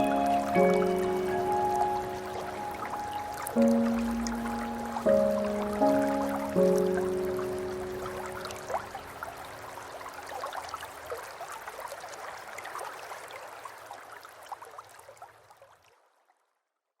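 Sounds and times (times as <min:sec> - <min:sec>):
small waterfall trickling: 0:00.0 - 0:16.4.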